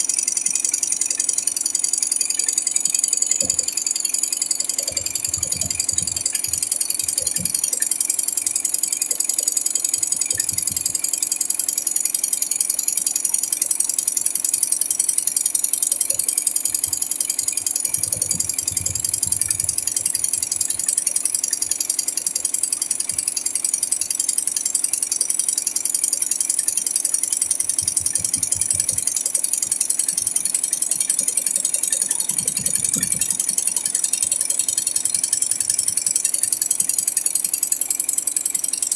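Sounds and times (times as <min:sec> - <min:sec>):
embroidery machine clatter: 0:00.0 - 0:38.9.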